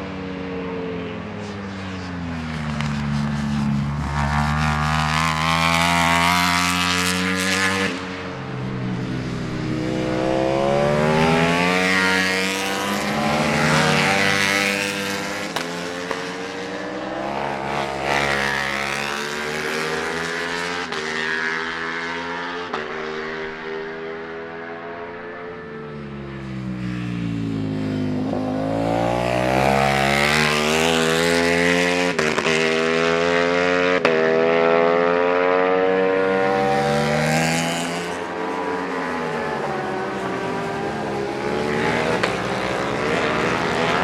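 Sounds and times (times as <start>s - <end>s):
motorcycles racing past: 0.0s - 44.0s.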